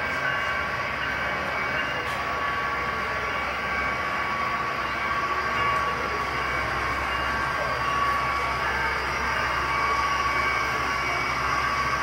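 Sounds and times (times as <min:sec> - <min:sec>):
model trains whirring: 0:00.0 - 0:12.0
thin whining tones: 0:00.0 - 0:12.0.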